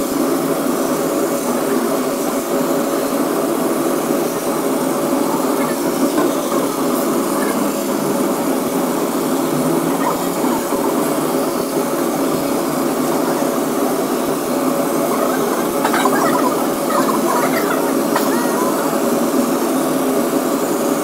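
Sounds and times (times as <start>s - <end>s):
laser cutter humming: 0.0s - 21.0s.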